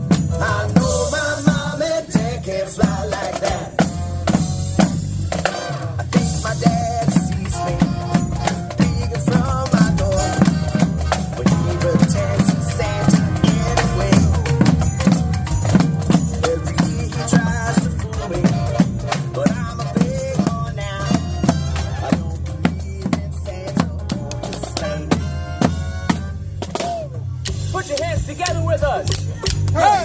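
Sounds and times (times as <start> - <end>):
steady drum beat: 0.0 - 30.0
upbeat instrumental music: 0.0 - 30.0.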